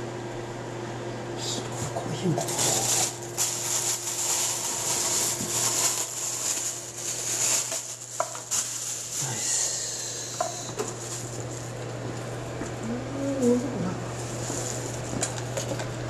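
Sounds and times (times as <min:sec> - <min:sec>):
machine hiss and hum: 0:00.0 - 0:16.0.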